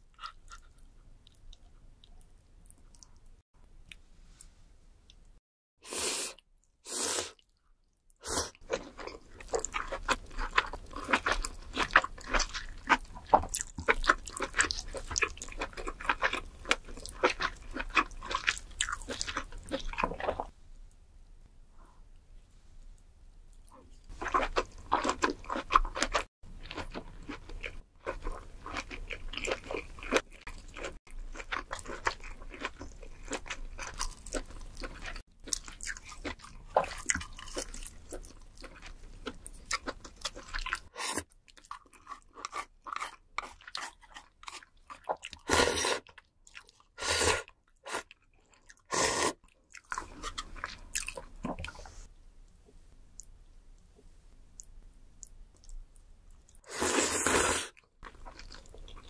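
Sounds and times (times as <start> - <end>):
close chewing with mouth clicks: 0.0 - 4.0, 7.3 - 20.5, 23.5 - 52.1, 54.6 - 59.0.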